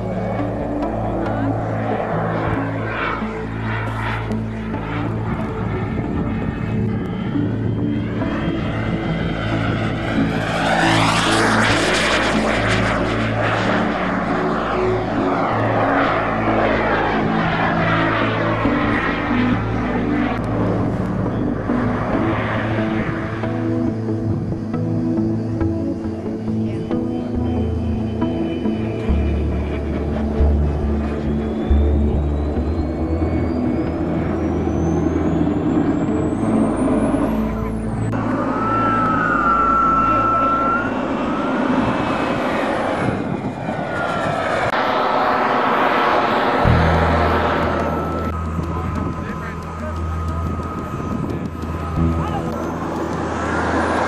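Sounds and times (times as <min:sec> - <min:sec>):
model aircraft engine rushing past: 0:00.0 - 0:54.0
steady low drone: 0:00.0 - 0:54.0.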